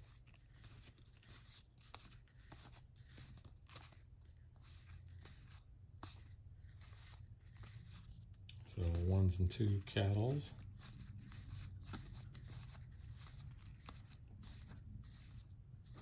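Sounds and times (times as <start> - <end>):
cards rustling and ticking: 0.0 - 16.0
low steady hum: 1.8 - 16.0.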